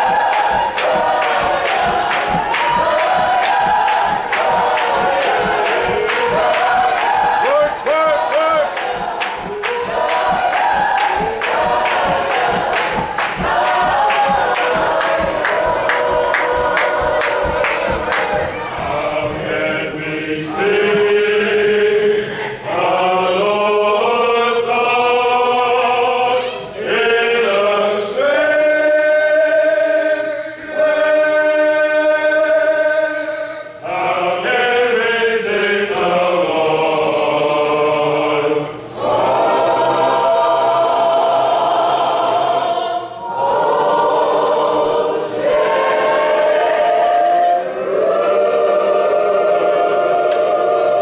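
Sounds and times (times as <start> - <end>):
mixed choir singing: 0.0 - 51.0.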